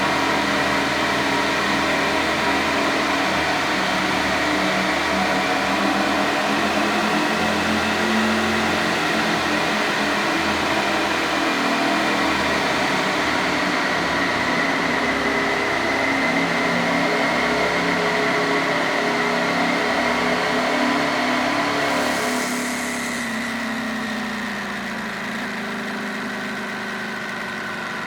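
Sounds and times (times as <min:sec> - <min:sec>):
motorcycle engine running: 0:00.0 - 0:21.5, 0:22.6 - 0:28.0.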